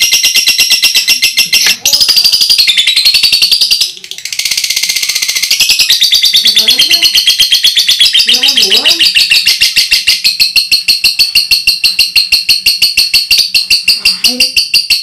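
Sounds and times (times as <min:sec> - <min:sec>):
lovebird chattering: 0:00.0 - 0:15.0.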